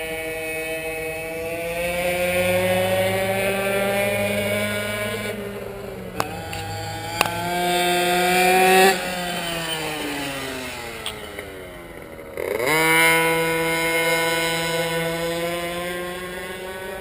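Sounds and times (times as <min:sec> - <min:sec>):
racing engine revving: 0:00.0 - 0:17.0.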